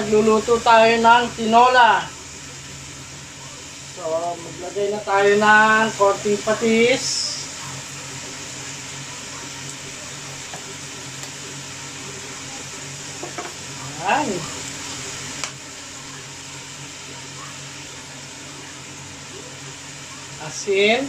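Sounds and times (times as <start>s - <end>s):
chicken sizzling in a pot: 0.0s - 21.0s.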